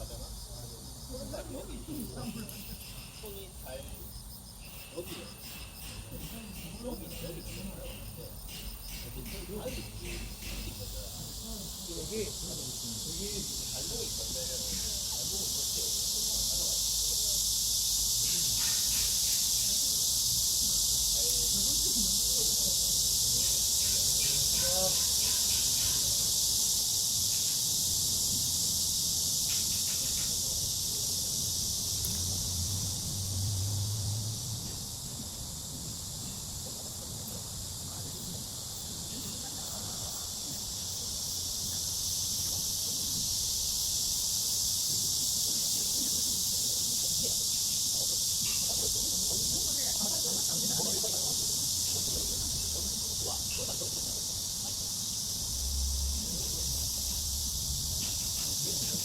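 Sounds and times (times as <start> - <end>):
faint distant voices: 0.0 - 59.0
high-pitched insect chorus: 0.0 - 59.0.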